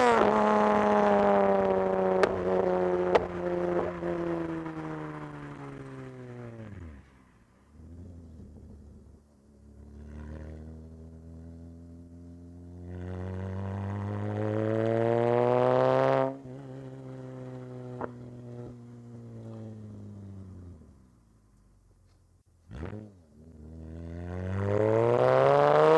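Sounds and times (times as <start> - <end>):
car engine revving under load: 0.0 - 25.9.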